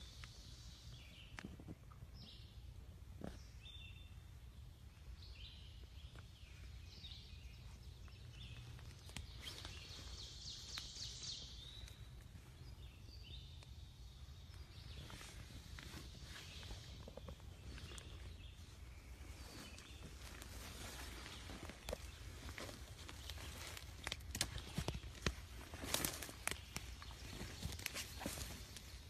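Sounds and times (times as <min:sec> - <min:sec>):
songbirds singing: 0:00.0 - 0:29.0.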